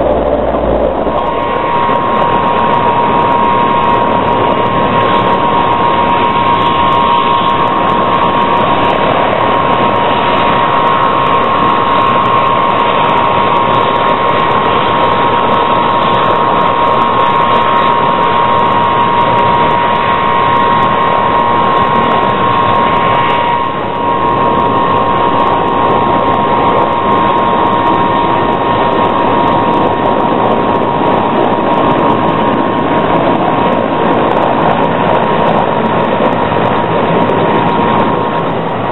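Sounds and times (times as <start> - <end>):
turbine aircraft engine whine: 0.0 - 38.9.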